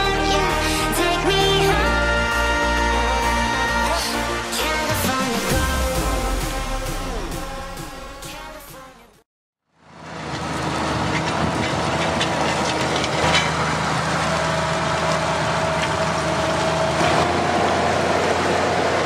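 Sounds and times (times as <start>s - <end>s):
tractor diesel engine under load: 0.0s - 8.2s, 9.7s - 19.0s.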